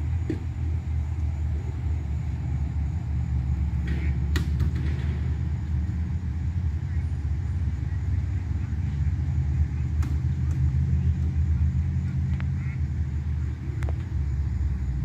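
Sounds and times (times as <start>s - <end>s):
idling engine rumble: 0.0s - 15.0s.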